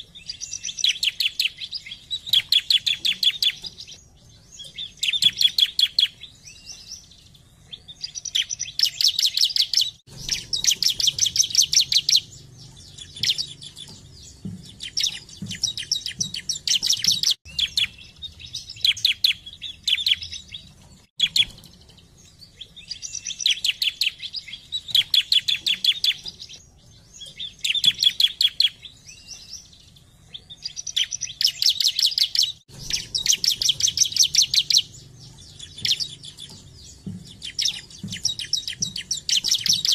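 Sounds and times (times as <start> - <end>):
bird singing sharp ticking notes: 0.0 - 39.9.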